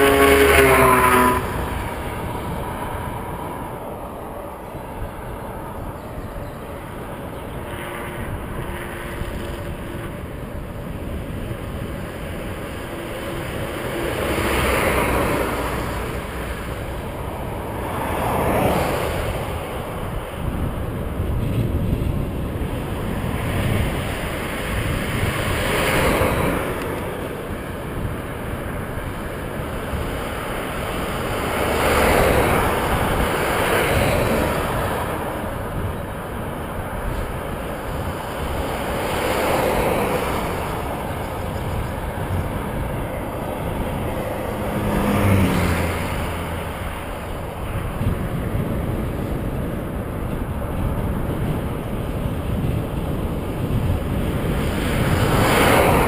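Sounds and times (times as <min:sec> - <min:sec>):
cars passing: 0:00.0 - 0:56.0
wind rush over microphone: 0:00.0 - 0:56.0.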